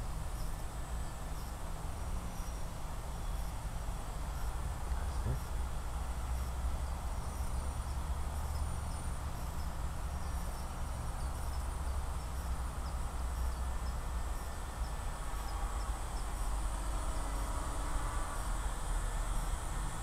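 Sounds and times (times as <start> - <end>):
faint insect chirping: 0.0 - 20.0.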